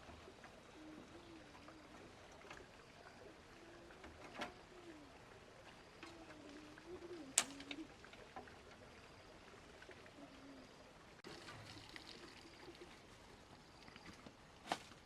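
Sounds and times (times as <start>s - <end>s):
farmyard background: 0.0s - 15.0s.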